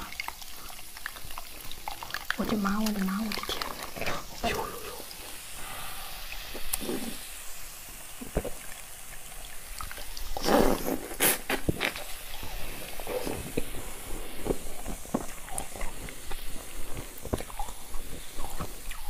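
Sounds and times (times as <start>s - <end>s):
mouth sucking and slurping ice: 0.0s - 19.0s.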